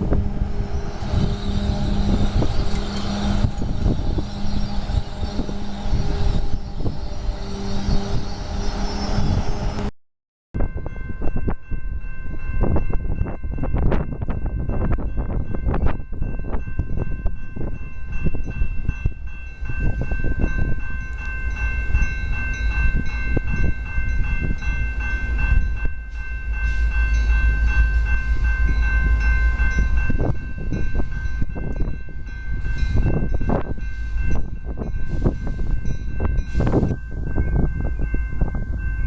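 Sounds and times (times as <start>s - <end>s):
train rumbling past: 0.0s - 9.9s, 10.6s - 39.0s.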